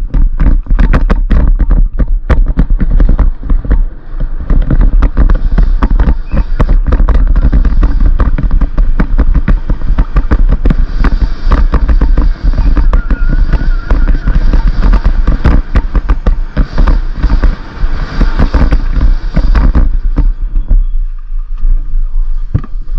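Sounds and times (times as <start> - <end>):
bike rattling and knocking: 0.0 - 21.6, 22.4 - 22.9
wind rush on microphone: 0.0 - 22.9.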